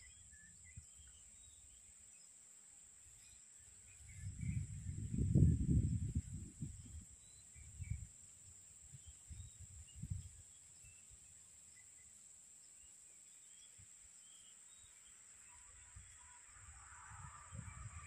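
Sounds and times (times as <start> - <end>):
faint bird chirps: 0.0 - 2.4, 3.0 - 18.0.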